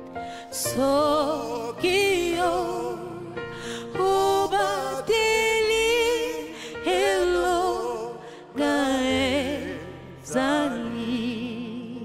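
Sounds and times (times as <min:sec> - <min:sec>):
woman singing gospel: 0:00.6 - 0:12.0.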